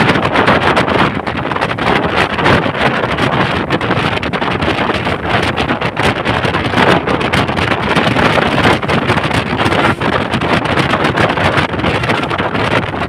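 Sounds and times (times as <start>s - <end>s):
bus engine and road noise: 0.0s - 13.0s
wind buffeting microphone: 0.0s - 13.0s.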